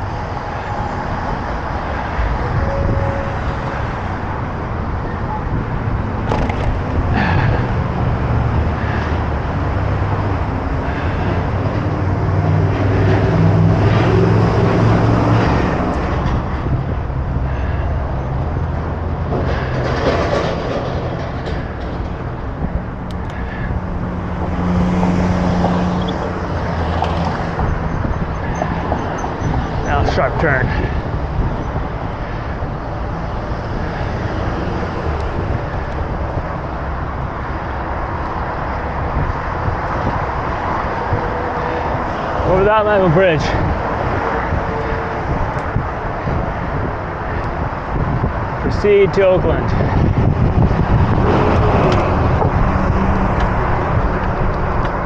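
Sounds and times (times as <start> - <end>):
motor vehicles passing: 0.0 - 55.0.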